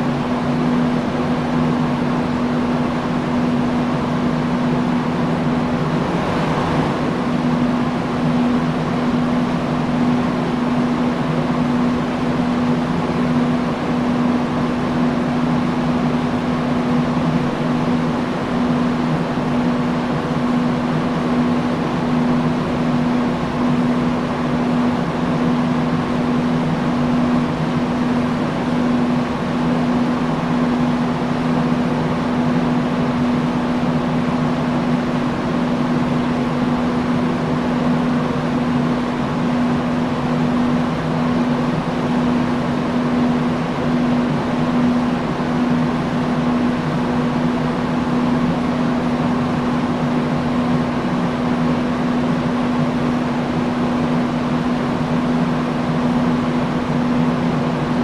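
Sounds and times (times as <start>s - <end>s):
industrial fan running: 0.0s - 58.0s.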